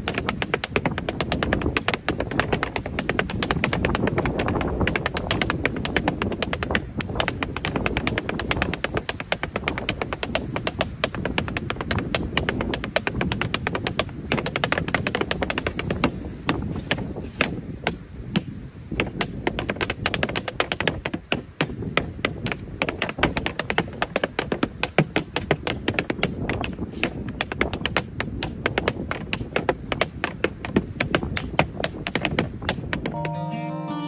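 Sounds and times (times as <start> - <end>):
tap shoes clicking on wooden board: 0.0 - 33.2.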